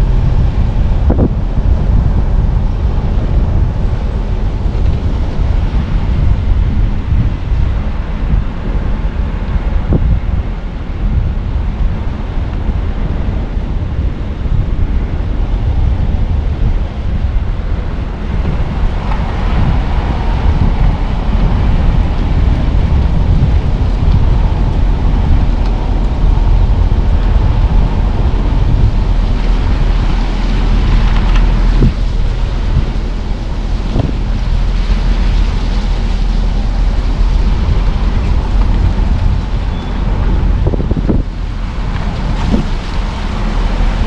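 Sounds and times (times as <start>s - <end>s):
car road and engine rumble: 0.0s - 44.0s
wind buffeting microphone: 0.0s - 44.0s.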